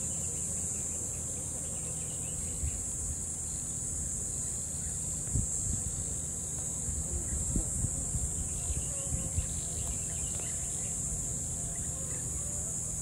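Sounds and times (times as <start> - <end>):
insect chorus buzzing: 0.0 - 13.0.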